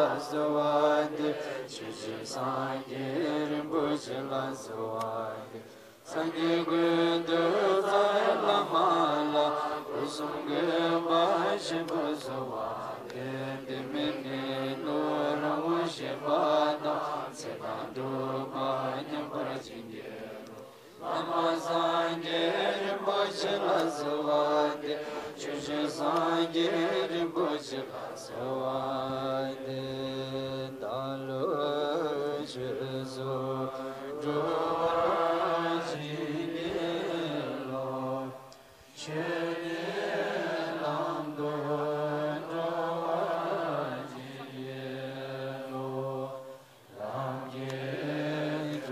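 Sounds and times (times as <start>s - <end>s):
monks chanting: 0.0s - 48.9s.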